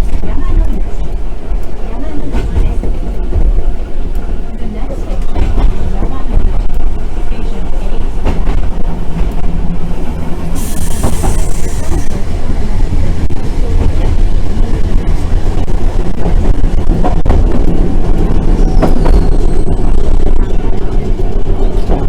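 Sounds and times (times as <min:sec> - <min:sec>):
tram rumbling along track: 0:00.0 - 0:22.0.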